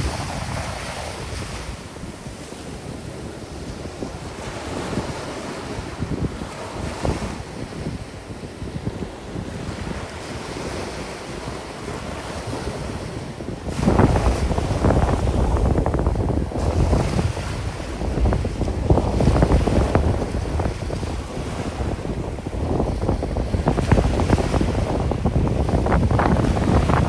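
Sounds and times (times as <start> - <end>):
ocean waves washing onto beach: 0.0 - 27.0
wind gusting on microphone: 0.0 - 27.0.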